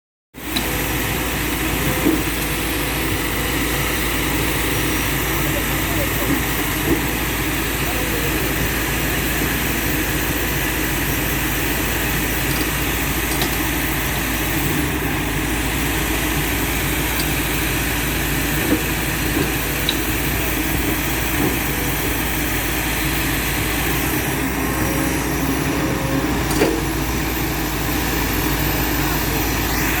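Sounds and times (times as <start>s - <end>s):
diesel engine running: 0.4s - 30.0s.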